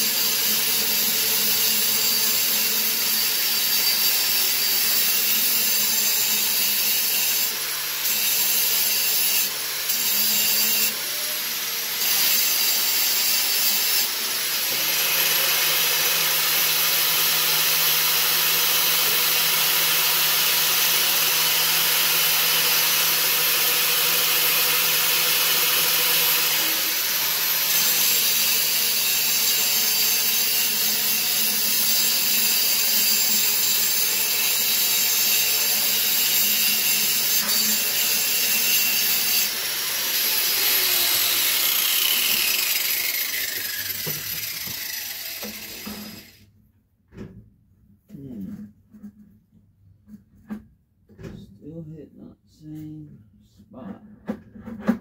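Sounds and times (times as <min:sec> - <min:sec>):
power grinder grinding metal: 0:00.0 - 0:46.4.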